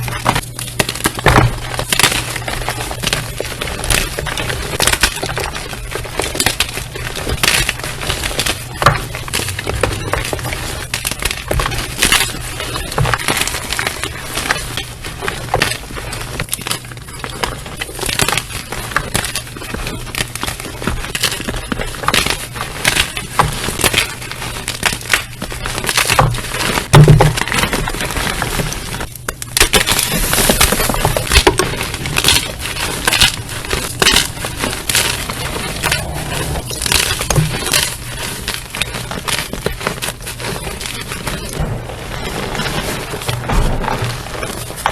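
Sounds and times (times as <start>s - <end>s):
slime crunching and crackling: 0.0s - 44.9s.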